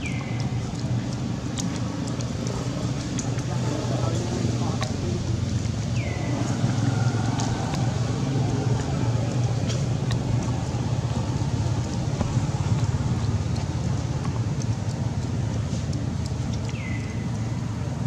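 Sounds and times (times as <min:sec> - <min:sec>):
faint clicks: 0:00.0 - 0:17.8
low motor rumble: 0:00.0 - 0:18.0.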